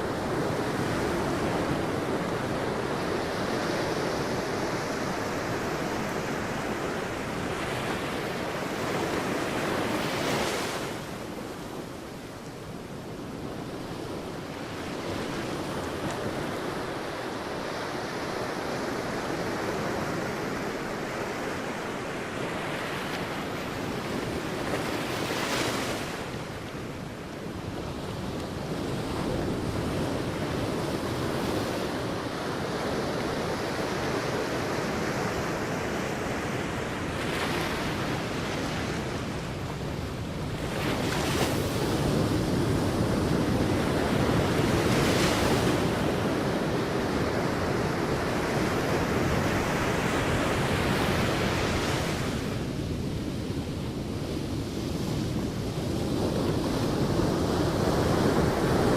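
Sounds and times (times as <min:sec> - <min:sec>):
sea waves breaking on a beach: 0:00.0 - 0:58.9.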